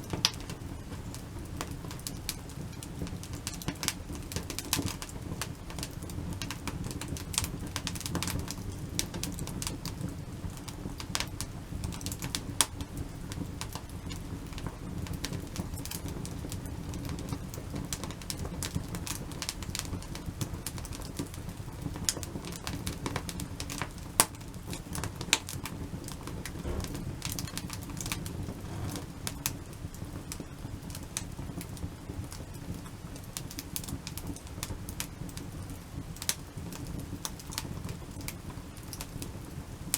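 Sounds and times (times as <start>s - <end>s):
campfire crackling and popping: 0.0s - 39.9s
low rumble of fire: 0.0s - 39.9s.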